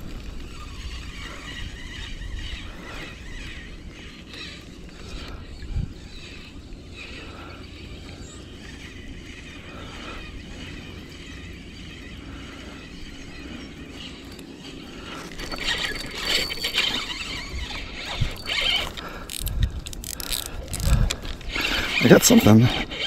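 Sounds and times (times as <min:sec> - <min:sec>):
fishing reel squealing and clicking: 0:00.2 - 0:23.0.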